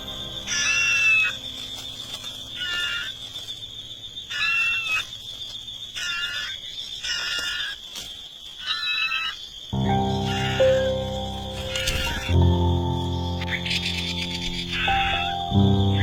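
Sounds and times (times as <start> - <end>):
bird calling: 0.0 - 8.0, 8.6 - 16.0.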